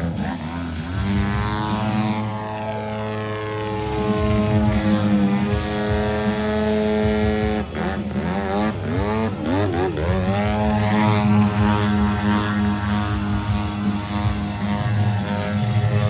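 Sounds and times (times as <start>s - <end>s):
model airplane engine and propeller: 0.0s - 16.0s.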